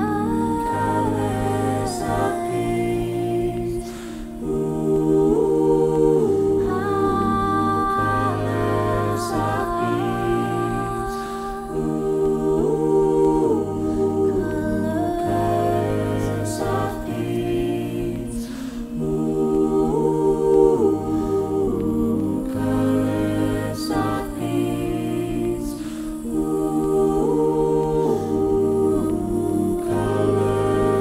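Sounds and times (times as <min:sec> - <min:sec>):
vocal ensemble singing harmony: 0:00.0 - 0:31.0.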